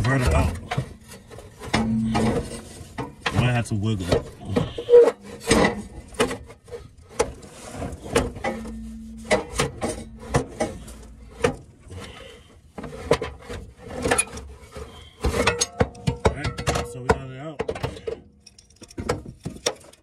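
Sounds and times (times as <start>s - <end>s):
metal knocking and scraping: 0.0s - 20.0s.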